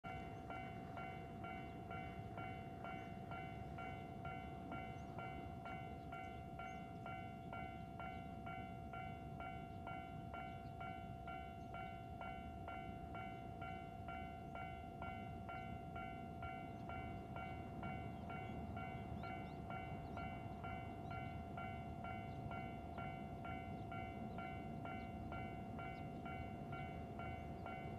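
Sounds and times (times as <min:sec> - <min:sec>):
distant freight train rumble: 0:00.0 - 0:27.9.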